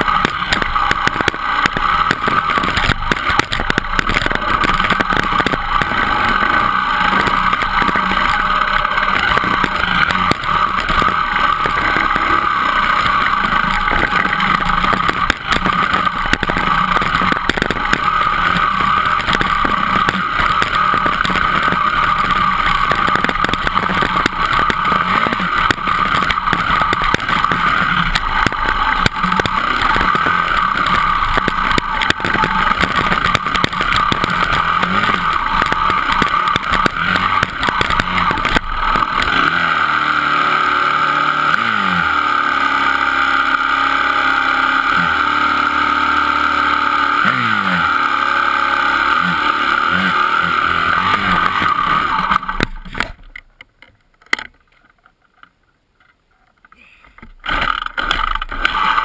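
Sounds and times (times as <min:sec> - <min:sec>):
dirt bike engine running: 0:00.0 - 0:53.6, 0:57.1 - 0:59.0
knocks and rattles: 0:00.0 - 0:59.0.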